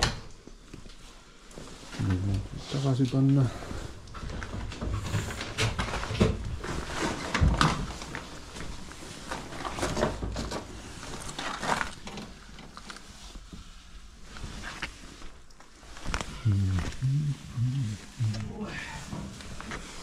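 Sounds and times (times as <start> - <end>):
clunks and scrapes of objects: 1.5 - 20.0.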